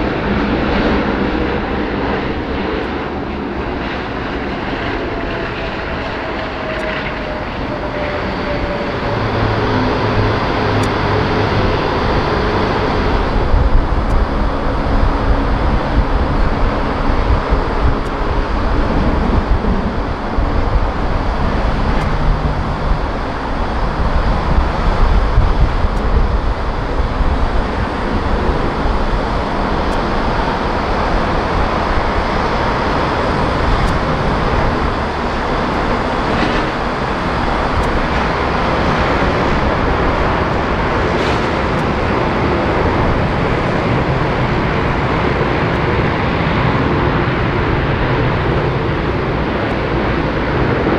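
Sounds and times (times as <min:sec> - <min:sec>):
jet engines rumbling: 0:00.0 - 0:50.9.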